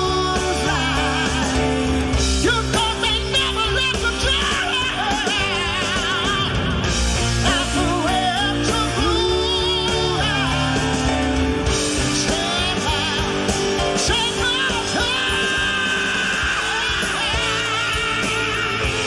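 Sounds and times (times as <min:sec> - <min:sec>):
people singing with vibrato: 0:00.0 - 0:19.0
rock band playing live: 0:00.0 - 0:19.0.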